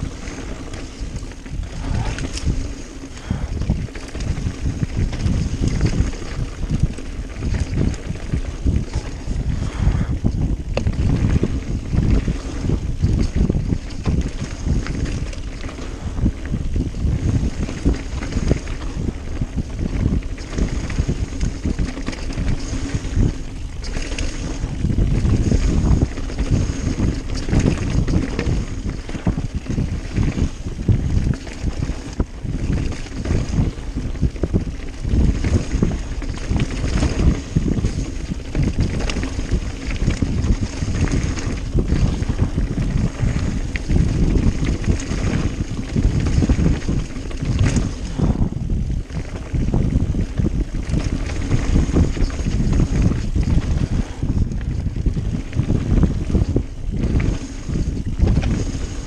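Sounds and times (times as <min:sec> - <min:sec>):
bike rattling and knocking: 0:00.0 - 0:59.0
wind buffeting microphone: 0:00.0 - 0:59.0.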